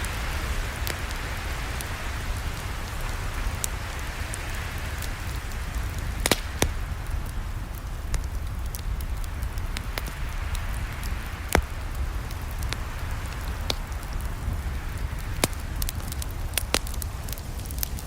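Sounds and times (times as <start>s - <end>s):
flames rumbling and hissing: 0.0s - 18.0s
burning wood pops and snaps: 0.7s - 1.2s, 1.8s - 18.0s.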